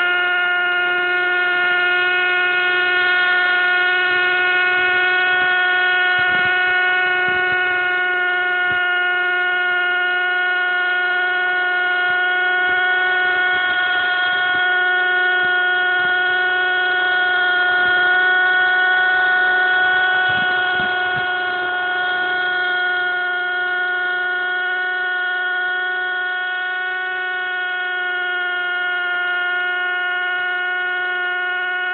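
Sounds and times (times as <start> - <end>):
rc helicopter engine buzzing whine: 0.0 - 31.9.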